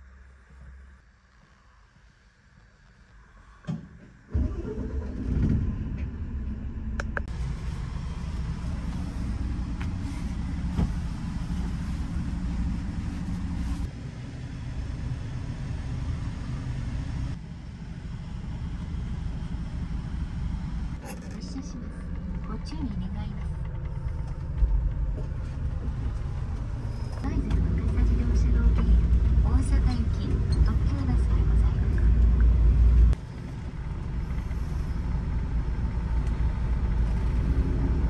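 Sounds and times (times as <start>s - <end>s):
bus engine rumble: 0.0s - 38.0s.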